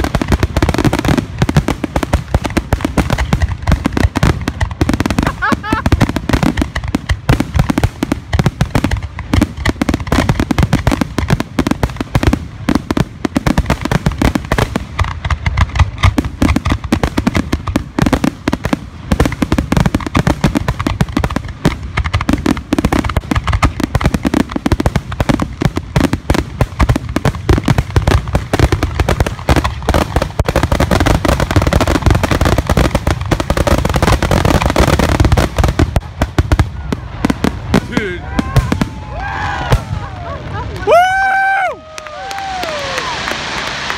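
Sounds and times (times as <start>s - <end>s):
fireworks barrage: 0.0s - 43.9s.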